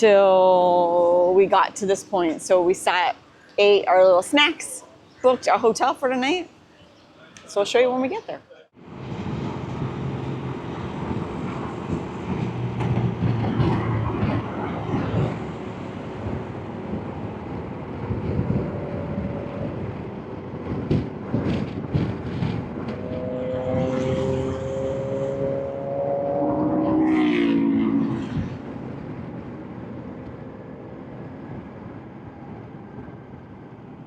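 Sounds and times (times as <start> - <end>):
road and wind noise: 0.0 - 34.0.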